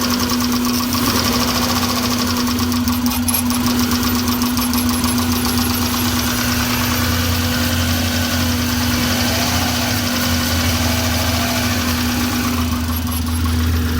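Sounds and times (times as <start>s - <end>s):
engine idling with misfires: 0.0s - 13.9s.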